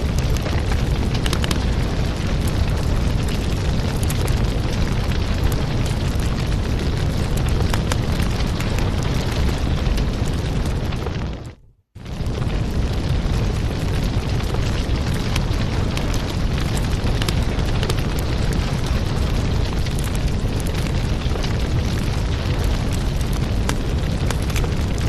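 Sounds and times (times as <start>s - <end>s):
fire crackles and pops: 0.0s - 25.0s
wood fire rumbling: 0.0s - 25.0s.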